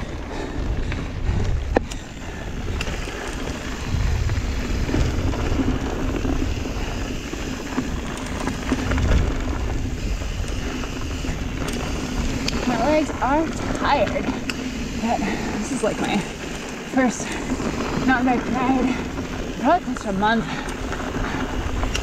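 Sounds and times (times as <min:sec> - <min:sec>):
bike clicks and rattles: 0:00.0 - 0:22.0
bike tires rolling on dirt: 0:00.0 - 0:22.0
wind rumbling on microphone: 0:00.0 - 0:22.0.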